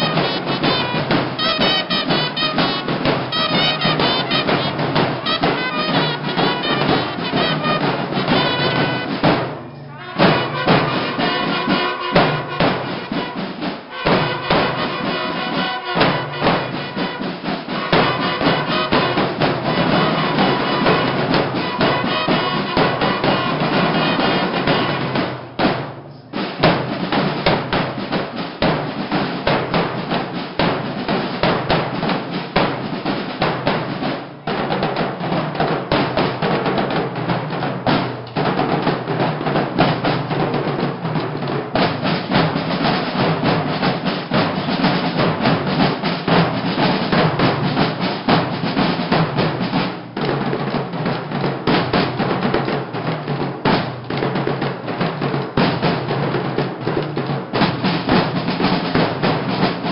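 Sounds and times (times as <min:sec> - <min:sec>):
marching snare and bass drums: 0:00.0 - 0:59.9.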